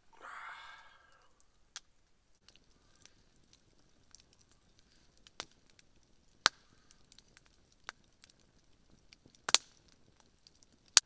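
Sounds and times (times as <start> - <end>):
campfire crackling: 0.0 - 11.0
sharp pops of fire: 1.7 - 11.0.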